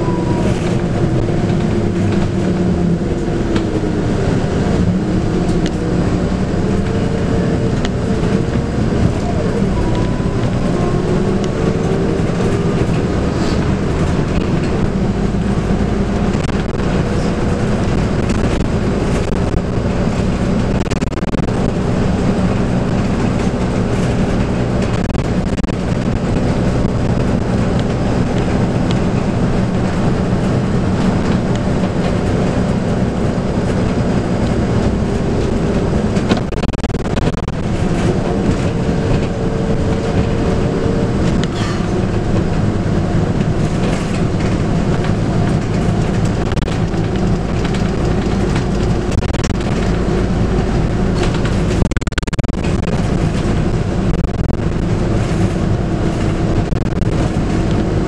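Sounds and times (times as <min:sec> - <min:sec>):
bus diesel engine running: 0:00.0 - 0:58.0
road and body rumble: 0:00.0 - 0:58.0.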